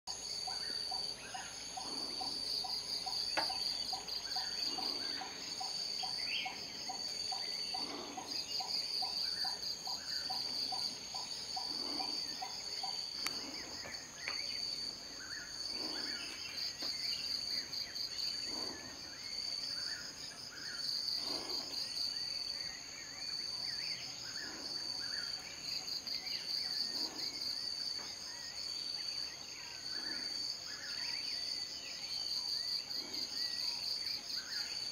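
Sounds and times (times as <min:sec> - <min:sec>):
insects trilling: 0:00.1 - 0:34.9
low pulsing insect call: 0:00.1 - 0:34.9.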